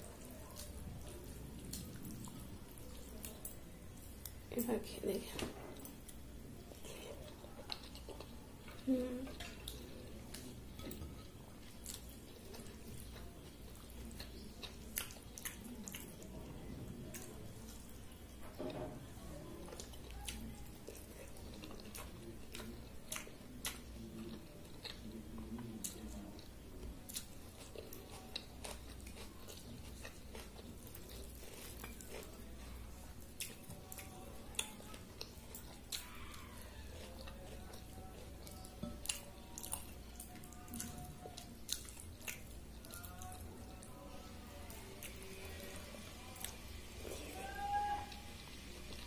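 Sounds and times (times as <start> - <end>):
person chewing: 0.0 - 4.5, 5.8 - 11.0, 11.6 - 16.4, 19.6 - 47.5.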